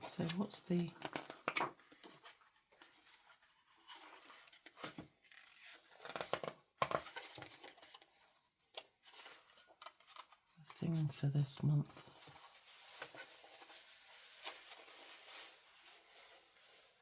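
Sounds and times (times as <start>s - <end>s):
paper and packaging rustling: 0.0s - 17.0s.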